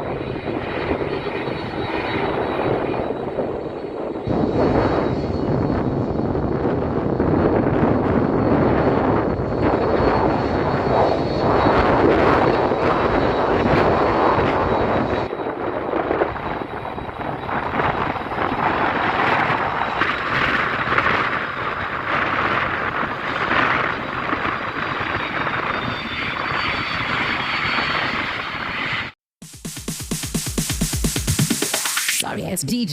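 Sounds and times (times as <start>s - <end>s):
jet engine rumble: 0.0s - 29.2s
jet engine high whine: 0.0s - 29.6s.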